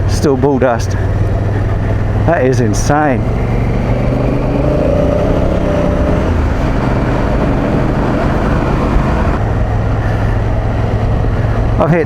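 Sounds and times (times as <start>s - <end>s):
motorcycle engine cruising: 0.0s - 12.0s
wind rush: 1.2s - 11.8s.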